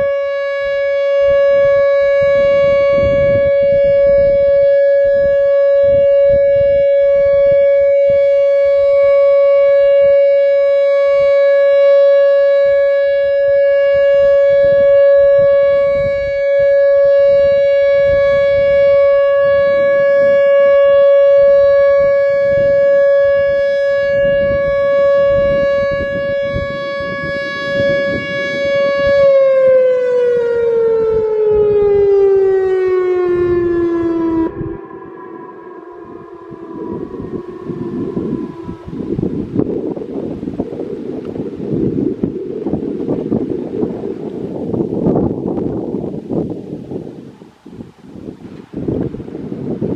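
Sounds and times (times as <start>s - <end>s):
steady electronic warning siren: 0.0s - 49.9s.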